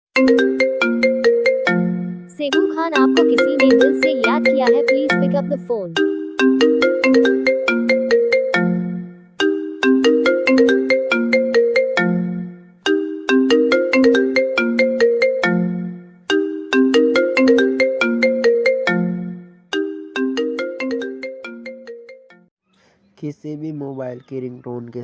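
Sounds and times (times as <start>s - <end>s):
phone ringtone melody: 0.2s - 22.5s.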